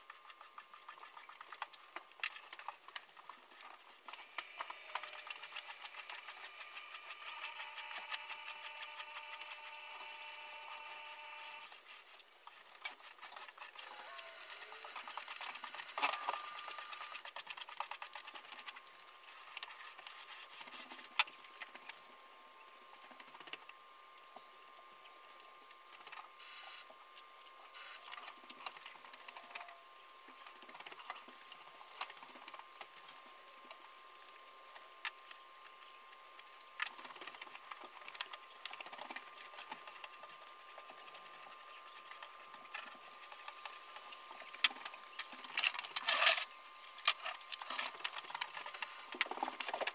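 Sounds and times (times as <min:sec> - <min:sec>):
faint high hum: 0:00.0 - 0:49.9.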